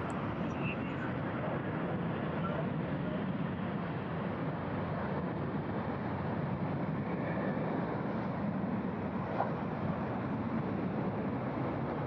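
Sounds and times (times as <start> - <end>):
airliner jet engine noise: 0.0 - 12.0.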